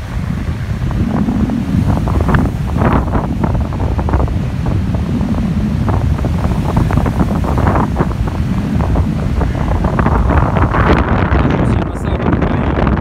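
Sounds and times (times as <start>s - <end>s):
gusty wind on microphone: 0.0s - 13.0s
sea surf washing: 0.0s - 13.0s.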